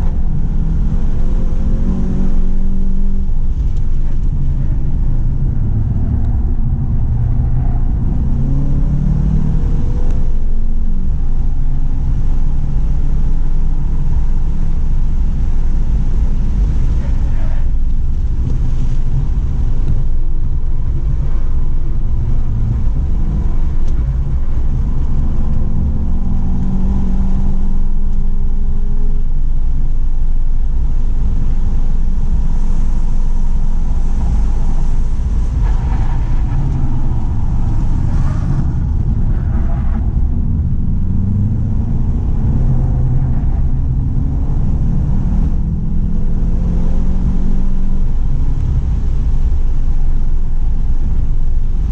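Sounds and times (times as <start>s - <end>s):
car engine accelerating: 0.0s - 51.9s
road and wind rumble: 0.0s - 51.9s.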